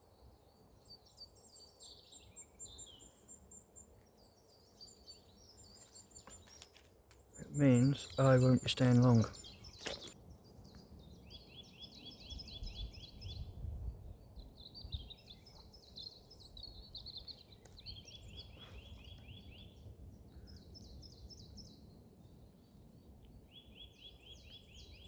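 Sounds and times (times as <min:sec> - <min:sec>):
low forest ambience: 0:00.0 - 0:25.0
bird chirps: 0:00.1 - 0:13.6, 0:14.2 - 0:21.9, 0:23.3 - 0:25.0.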